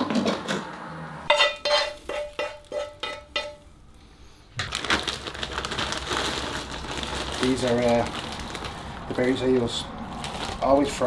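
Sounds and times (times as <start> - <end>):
rustling: 1.4 - 11.0.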